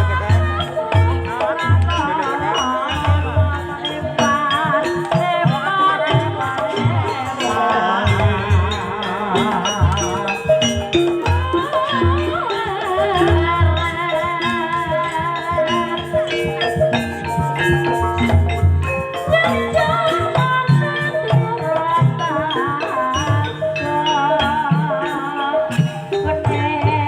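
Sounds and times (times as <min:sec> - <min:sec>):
person singing: 0:00.0 - 0:27.0
ringing metallophone notes: 0:00.0 - 0:27.0.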